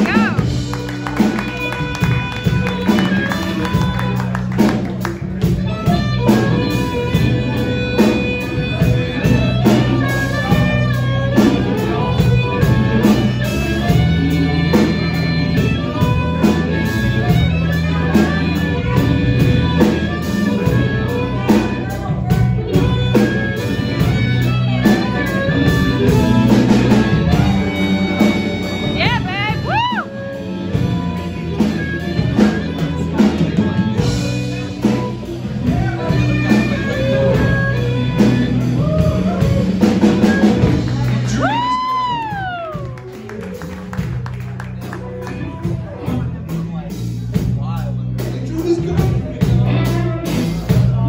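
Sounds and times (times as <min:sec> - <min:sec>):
harmonica bending notes: 0:00.0 - 0:42.0
drum kit beat: 0:00.0 - 0:51.0
electric bass line: 0:00.0 - 0:51.0
electric guitar: 0:00.0 - 0:51.0.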